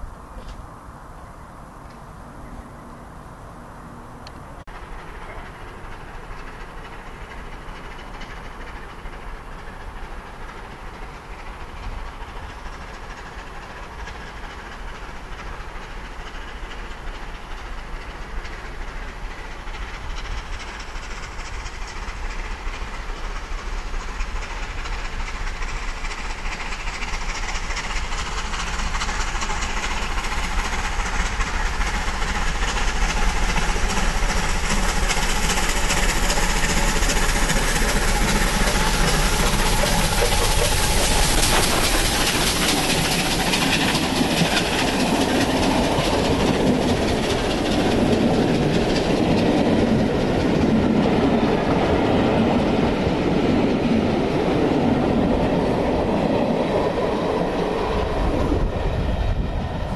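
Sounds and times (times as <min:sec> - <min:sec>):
wheel and rail noise: 0:00.0 - 0:59.9
steam locomotive exhaust: 0:04.7 - 0:59.9.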